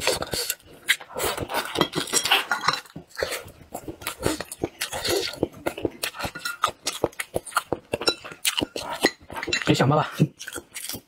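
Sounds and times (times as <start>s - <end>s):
wet chewing and smacking: 0.0s - 11.0s.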